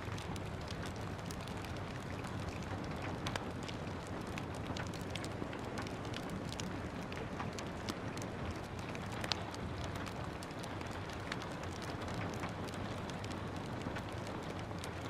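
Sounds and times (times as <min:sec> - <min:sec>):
gentle rain falling: 0:00.0 - 0:15.0
wood fire crackling and popping: 0:00.0 - 0:15.0.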